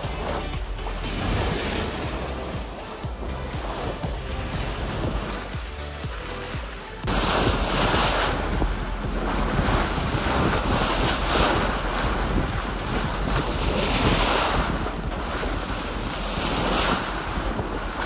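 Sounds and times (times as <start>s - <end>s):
boat bow wave rushing water: 0.0s - 18.0s
wind buffeting microphone: 0.0s - 18.0s.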